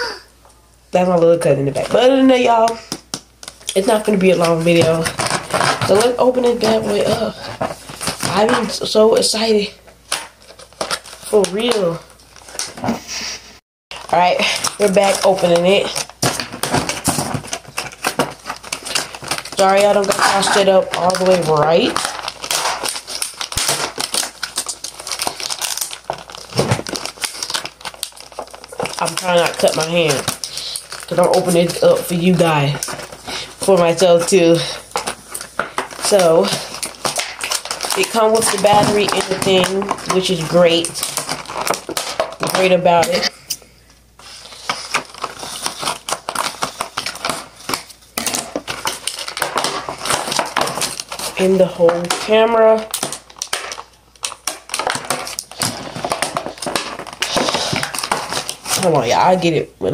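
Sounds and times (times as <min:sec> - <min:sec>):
plastic and cardboard rustling: 0:01.6 - 0:43.4, 0:44.0 - 0:59.5
packaging crinkling and tearing: 0:01.7 - 0:12.9, 0:13.9 - 0:43.6, 0:44.2 - 0:59.5.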